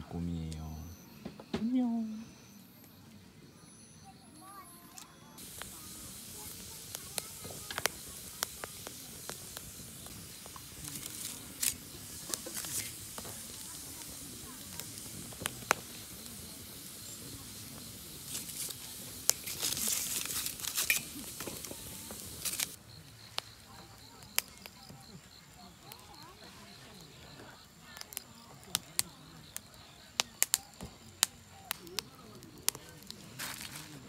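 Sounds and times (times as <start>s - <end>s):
firewood crackling and popping: 4.9s - 34.0s
hiss of flames: 5.4s - 34.0s.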